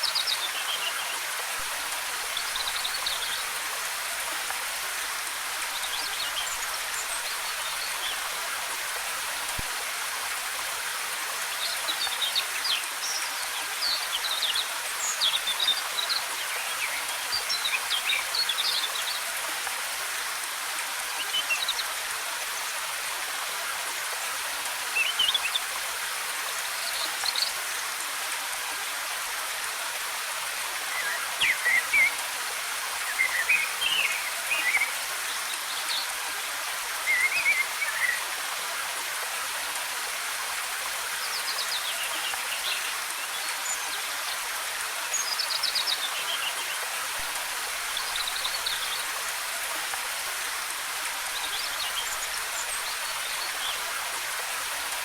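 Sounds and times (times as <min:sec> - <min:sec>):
cascading water hiss: 0:00.0 - 0:55.0.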